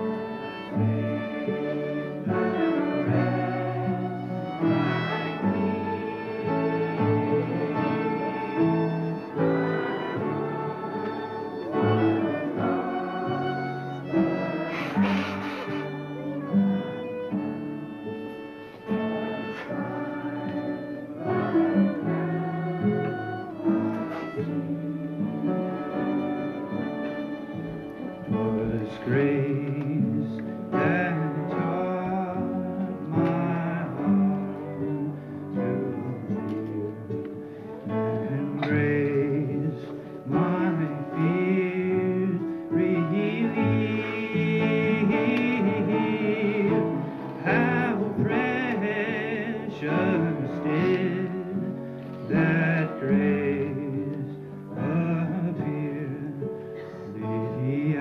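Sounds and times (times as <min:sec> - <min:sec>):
man singing with vibrato: 0:00.0 - 0:17.2, 0:17.9 - 0:27.4, 0:28.0 - 0:58.0
guitar: 0:00.0 - 0:58.0.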